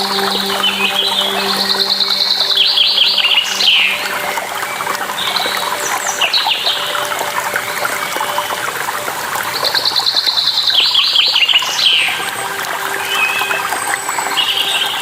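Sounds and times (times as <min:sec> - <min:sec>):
songbirds chirping: 0:00.0 - 0:15.0
water trickling and splashing: 0:00.0 - 0:15.0.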